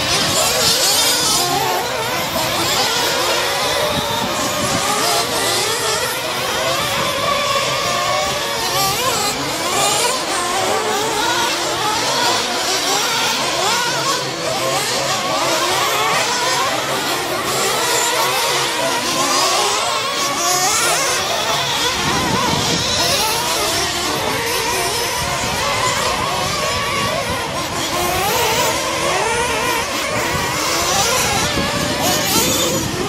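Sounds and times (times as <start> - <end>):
rc truck motors whining: 0.0 - 33.0.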